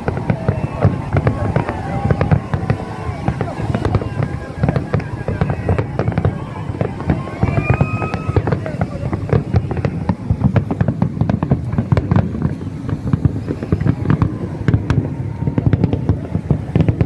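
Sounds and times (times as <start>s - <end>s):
fireworks bursts and crackles: 0.0s - 17.0s.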